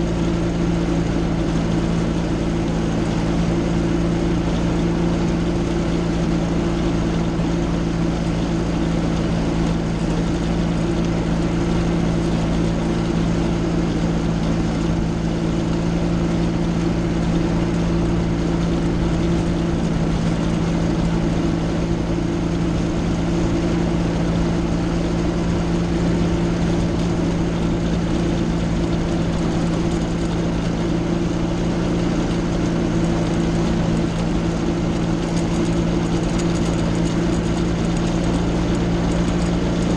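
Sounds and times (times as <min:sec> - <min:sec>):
ultralight engine and propeller drone: 0:00.0 - 0:39.9.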